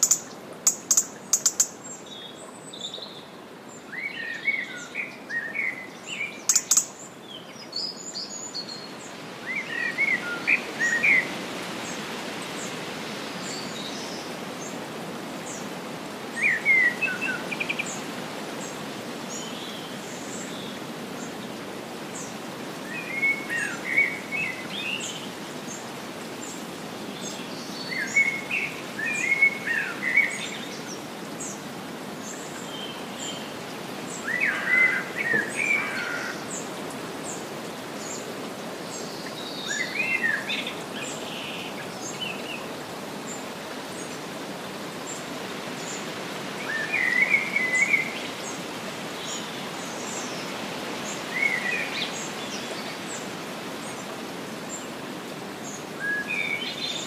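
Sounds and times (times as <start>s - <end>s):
songbird singing: 0.0s - 12.0s, 16.3s - 44.3s, 45.0s - 57.0s.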